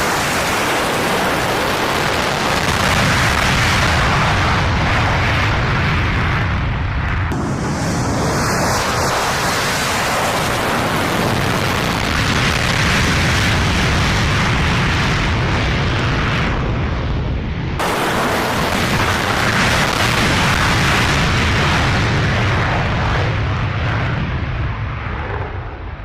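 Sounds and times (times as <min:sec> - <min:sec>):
jet engine roaring: 0:00.0 - 0:26.0.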